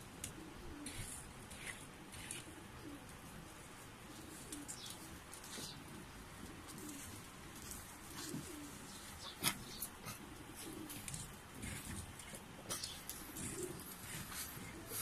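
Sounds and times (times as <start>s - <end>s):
soft low cooing calls: 0.0s - 15.0s.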